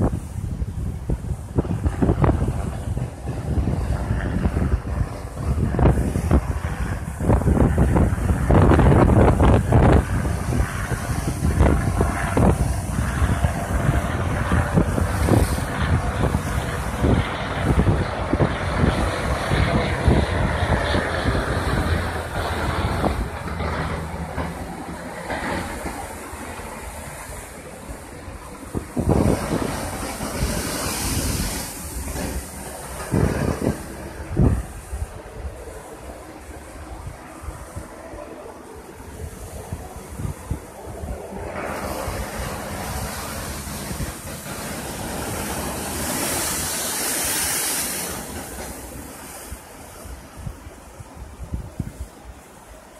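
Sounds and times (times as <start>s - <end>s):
helicopter rotor drone: 0.0s - 52.9s
surf washing over rocks: 0.0s - 52.9s
wind rumble on microphone: 0.0s - 52.9s.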